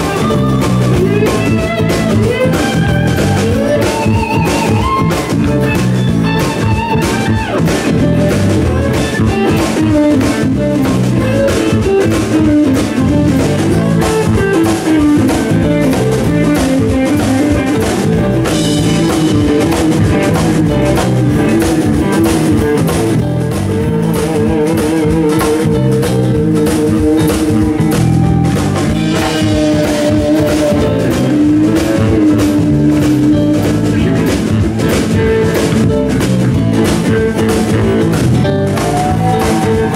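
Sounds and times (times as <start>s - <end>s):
drum kit: 0.0s - 39.9s
electric guitar lead line: 0.0s - 39.9s.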